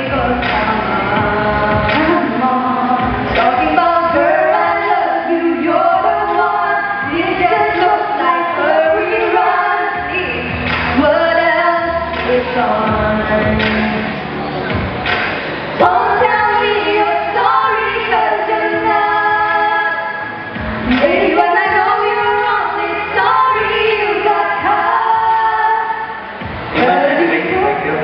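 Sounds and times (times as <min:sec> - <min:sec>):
girls singing a duet: 0:00.0 - 0:14.4, 0:15.8 - 0:28.0.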